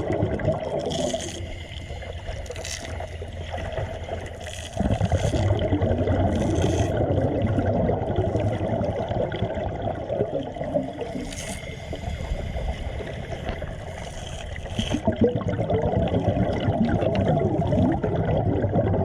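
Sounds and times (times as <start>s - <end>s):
water churning and gurgling: 0.0s - 19.0s.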